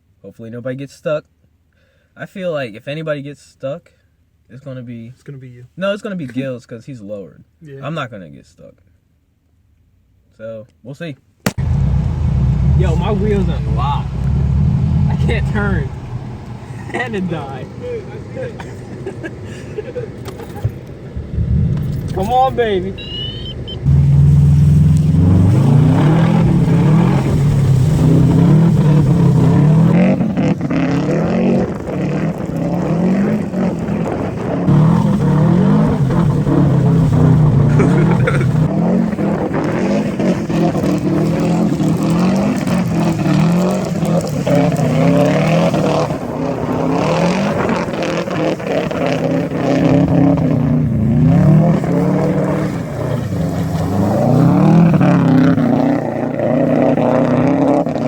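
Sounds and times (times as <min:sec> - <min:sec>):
car engine starting and revving: 0:11.5 - 0:58.0.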